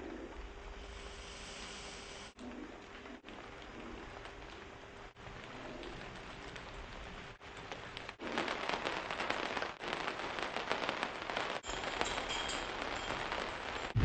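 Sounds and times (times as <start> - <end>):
rain falling: 2.4 - 14.0.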